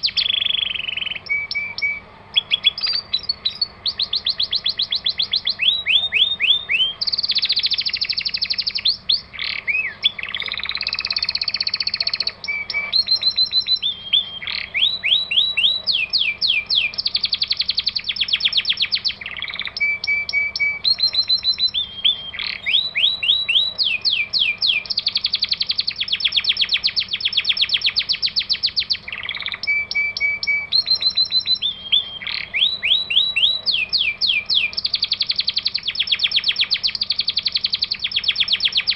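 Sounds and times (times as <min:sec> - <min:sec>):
bird whistles: 0:00.0 - 0:38.9
songbird chattering trills: 0:00.0 - 0:38.9.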